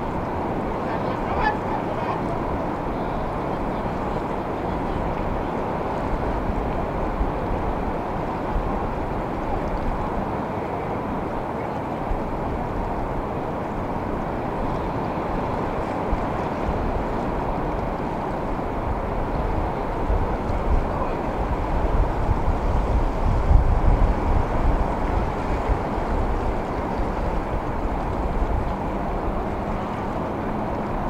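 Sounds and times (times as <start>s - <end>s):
ocean swell and distant surf: 0.0s - 31.0s
wind rumbling on microphone: 0.0s - 31.0s.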